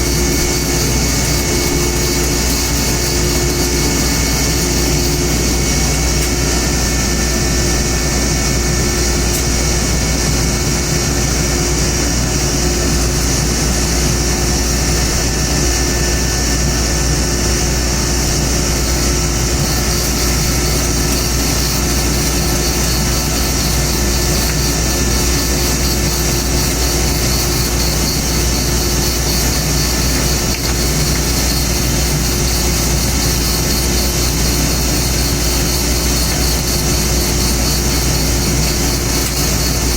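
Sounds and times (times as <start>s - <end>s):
woodworking machine humming: 0.0s - 39.9s.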